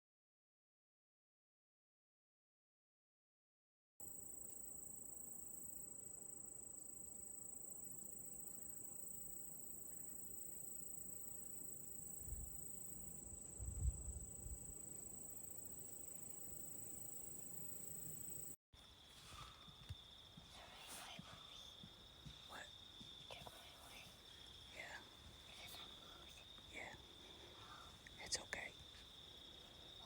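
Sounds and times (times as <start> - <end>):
insects trilling: 4.0 - 30.0.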